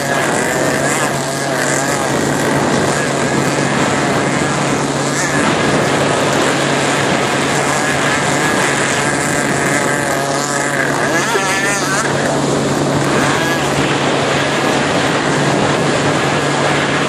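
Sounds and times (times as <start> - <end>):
motorboat engine hum: 0.0 - 17.0
wind and water rushing: 0.0 - 17.0.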